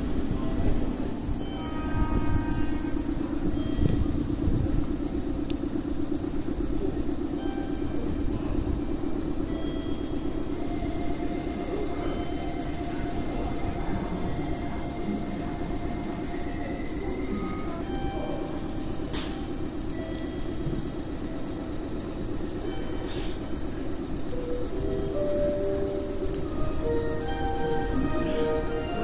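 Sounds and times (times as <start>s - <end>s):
train rumbling on track: 0.0s - 29.0s.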